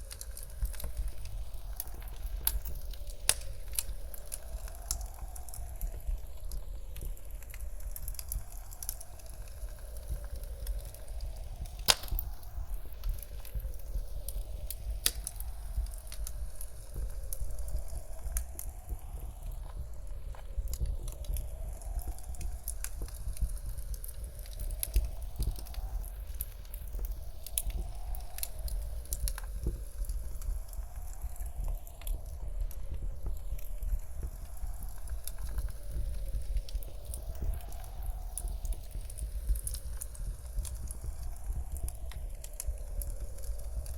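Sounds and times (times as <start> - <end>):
faint howling wind: 0.0 - 43.9
wood fire crackling and popping: 0.0 - 43.9.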